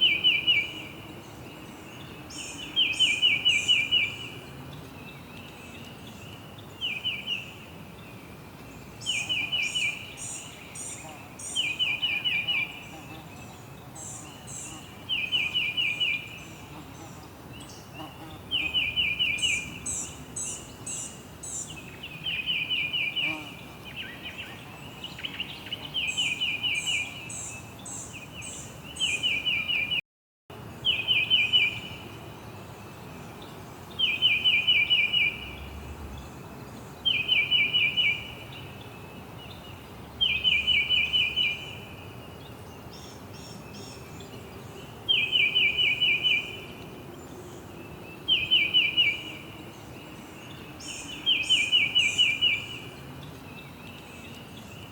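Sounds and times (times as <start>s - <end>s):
songbird trilling chirps: 0.0s - 30.0s, 30.8s - 54.9s.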